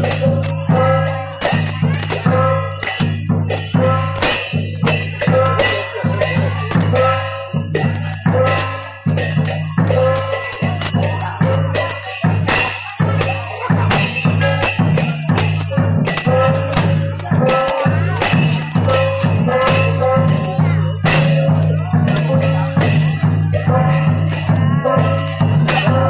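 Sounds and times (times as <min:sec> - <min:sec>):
drums: 0:00.0 - 0:26.0
jingling bells: 0:00.0 - 0:26.0
small hand cymbals: 0:00.0 - 0:26.0.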